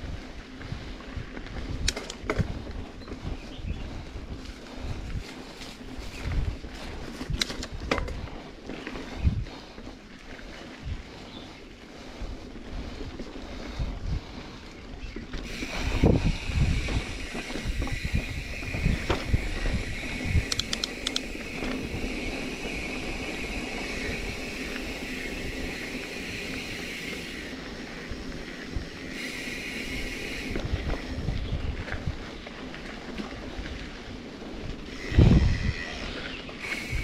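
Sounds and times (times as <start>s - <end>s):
wind rushing over microphone: 0.0s - 8.4s, 9.0s - 9.8s, 12.2s - 32.5s, 33.4s - 37.0s
bike tyres and frame rattling: 0.0s - 37.0s.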